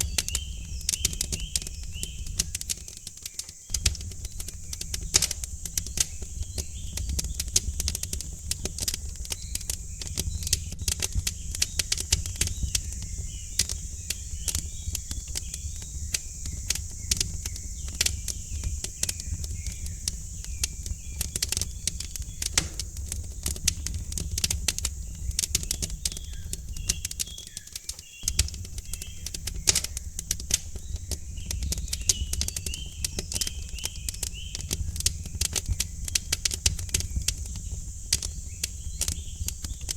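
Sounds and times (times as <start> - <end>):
small birds chirping: 0.0 - 39.9
wood fire crackling and popping: 0.0 - 39.9.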